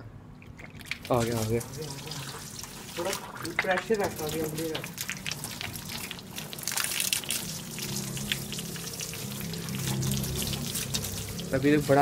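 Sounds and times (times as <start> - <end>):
low steady hum: 0.0 - 12.0
hose water spraying on metal grille: 1.1 - 12.0.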